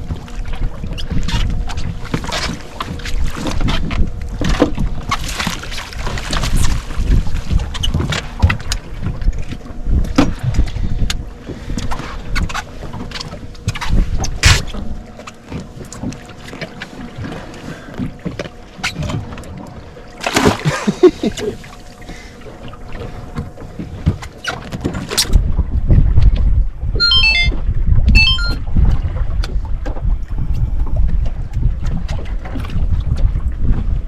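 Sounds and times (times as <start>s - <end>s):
wind buffeting microphone: 0.0s - 15.9s, 22.4s - 34.0s
knocks and clatter on boat: 0.0s - 34.0s
water slapping hull: 0.0s - 34.0s.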